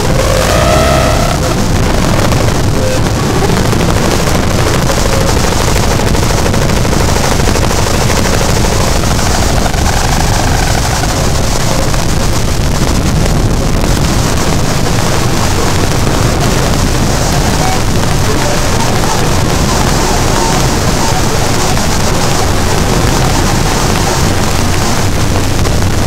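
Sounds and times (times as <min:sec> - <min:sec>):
dense rapid crackle: 0:00.0 - 0:26.0
distorted electronic noise: 0:00.0 - 0:26.0.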